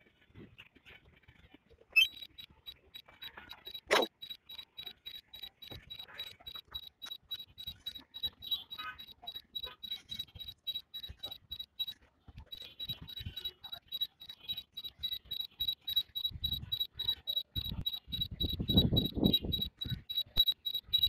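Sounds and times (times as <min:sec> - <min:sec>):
rapid high-pitched beeping: 0:02.0 - 0:21.0.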